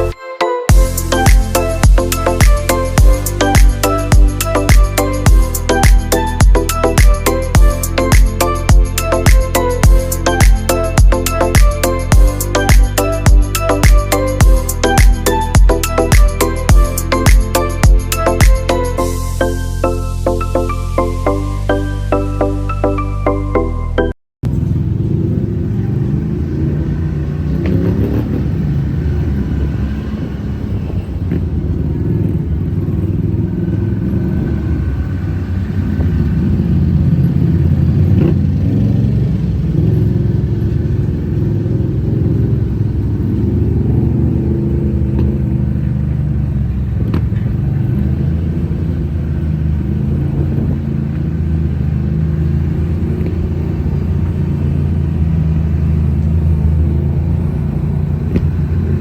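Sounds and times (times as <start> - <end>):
off-road vehicle engine droning: 0.0 - 59.0.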